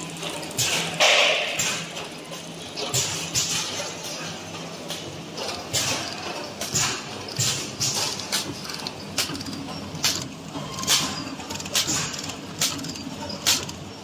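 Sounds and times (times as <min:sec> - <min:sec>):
packing machine hum: 0:00.0 - 0:14.0
sharp machine clack: 0:00.0 - 0:14.0.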